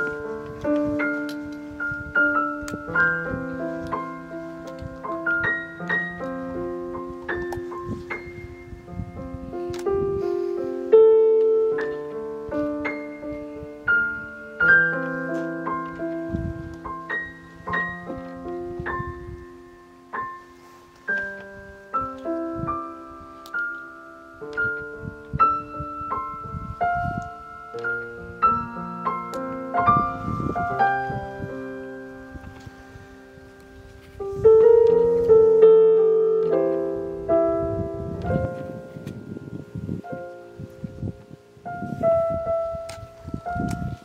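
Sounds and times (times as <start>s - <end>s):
solo piano: 0.0s - 44.0s.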